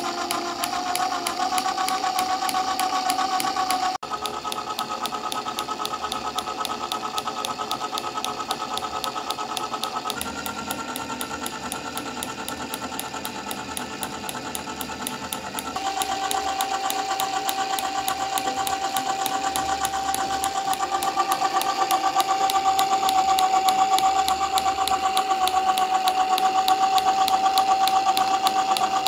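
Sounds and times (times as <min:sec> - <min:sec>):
fast clicking of gears: 0:00.0 - 0:29.0
small motor whirring: 0:00.0 - 0:29.0.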